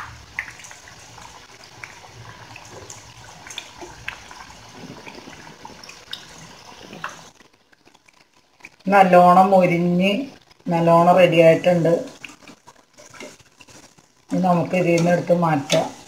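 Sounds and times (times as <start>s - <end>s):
fritters deep-frying in oil: 0.0s - 16.0s.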